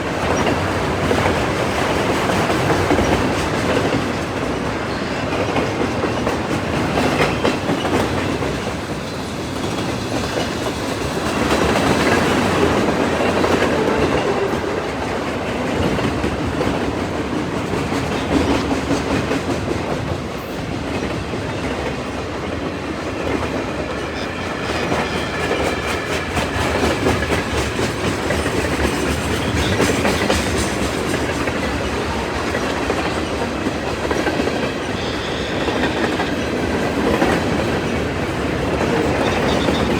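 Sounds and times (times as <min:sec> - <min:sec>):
rumble of wheels on rail: 0:00.0 - 0:39.9
train wheels clacking over joints: 0:00.0 - 0:39.9.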